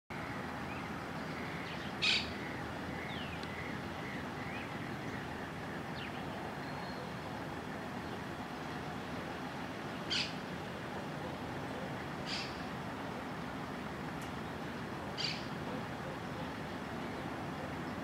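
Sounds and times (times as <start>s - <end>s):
steady background hiss: 0.1s - 18.0s
faint bird calls: 0.2s - 8.8s, 10.0s - 13.8s, 14.6s - 18.0s.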